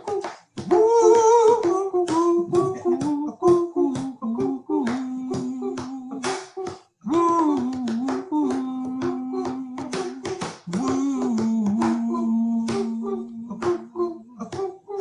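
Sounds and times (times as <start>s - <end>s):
hand claps and finger snaps: 0.0s - 14.8s
a cappella male vocal harmony: 0.0s - 15.0s.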